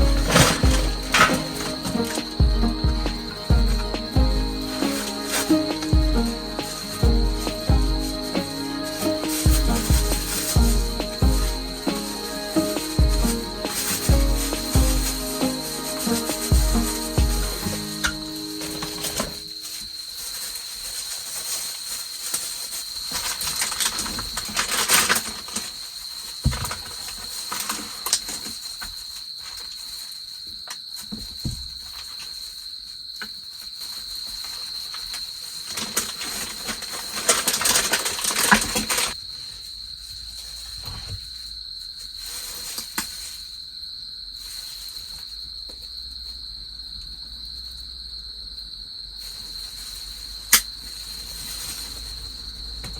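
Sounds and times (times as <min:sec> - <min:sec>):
close-up rustling and handling: 0:00.0 - 0:10.8, 0:13.5 - 0:43.6, 0:49.2 - 0:52.9
crickets trilling: 0:00.0 - 0:52.9.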